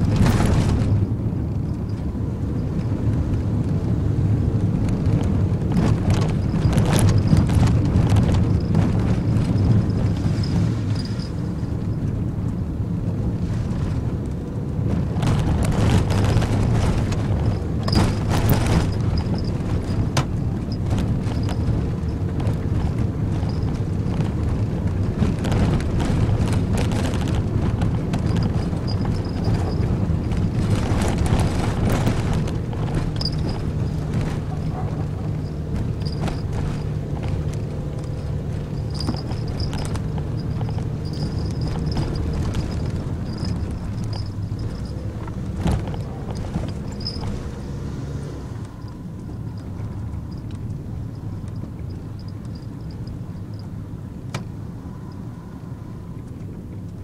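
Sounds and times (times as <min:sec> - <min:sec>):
van knocking and rattling: 0:00.0 - 0:47.8, 0:48.7 - 0:54.7
engine and tyre rumble: 0:00.0 - 0:57.0.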